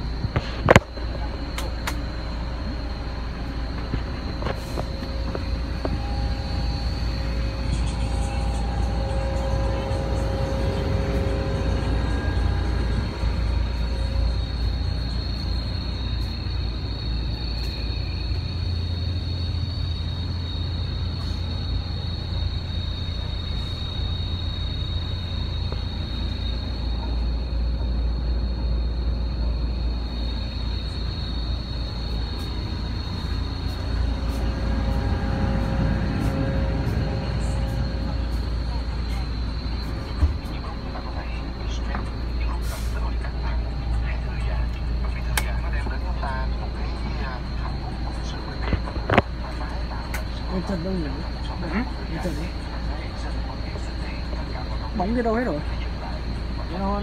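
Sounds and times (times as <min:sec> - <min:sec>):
bus low rumble: 0:00.0 - 0:57.0
thin high-pitched whine: 0:00.0 - 0:57.0.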